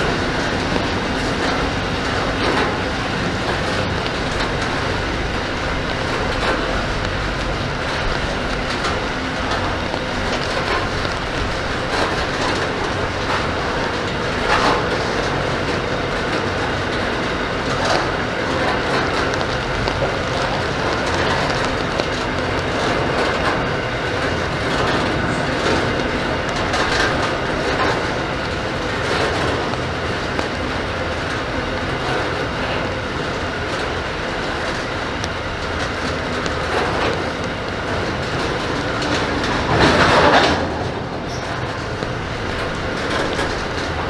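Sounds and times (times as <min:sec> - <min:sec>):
freight train rolling past: 0:00.0 - 0:44.0
wheels clicking over rail joints: 0:00.0 - 0:44.0.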